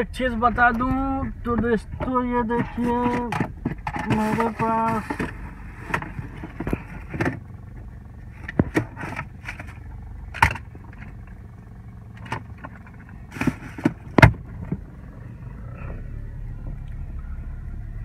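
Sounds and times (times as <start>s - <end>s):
car engine hum: 0.0s - 18.0s
clicks and knocks inside car: 0.4s - 15.0s.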